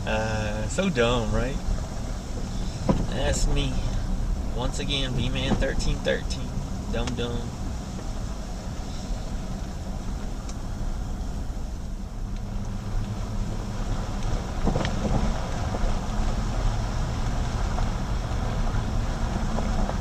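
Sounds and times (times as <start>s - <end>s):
vehicle rumble in cabin: 0.0s - 20.0s.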